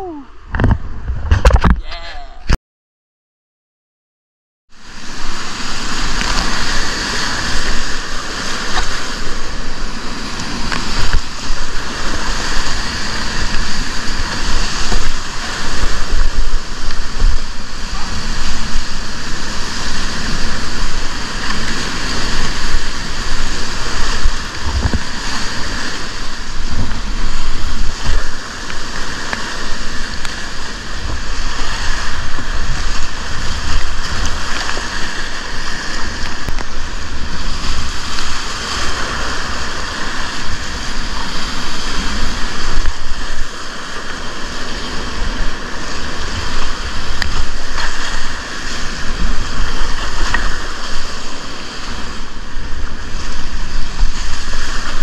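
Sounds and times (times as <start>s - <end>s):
wind buffeting microphone: 4.9s - 55.0s.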